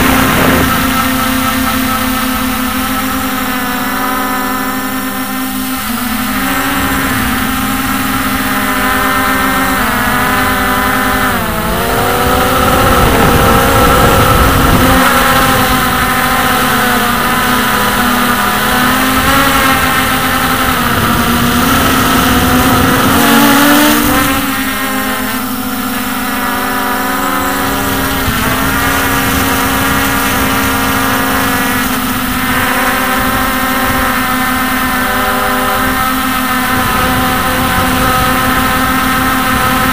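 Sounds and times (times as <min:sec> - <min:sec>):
drone motors and propellers whining: 0:00.0 - 0:39.9.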